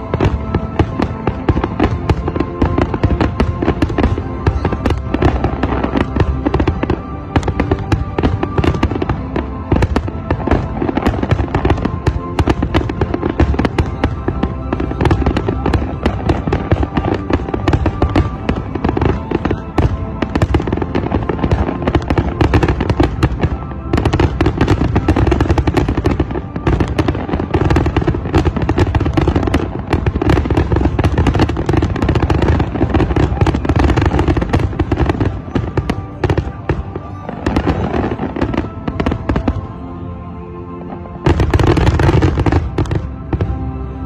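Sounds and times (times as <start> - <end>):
fireworks bangs and crackles: 0.0 - 44.0
music playing: 0.0 - 44.0.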